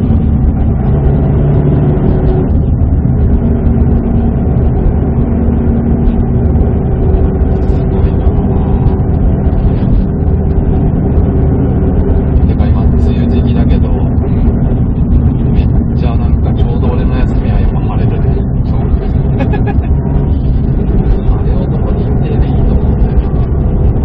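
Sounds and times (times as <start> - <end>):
car engine droning in cabin: 0.0 - 24.0
road noise: 0.0 - 24.0.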